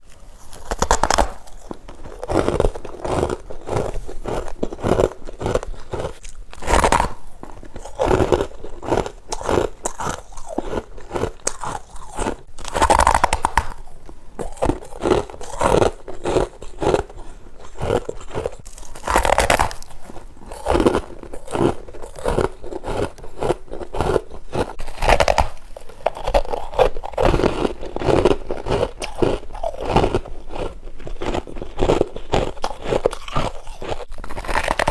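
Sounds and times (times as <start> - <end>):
person chewing crunchy frost: 0.0 - 34.9.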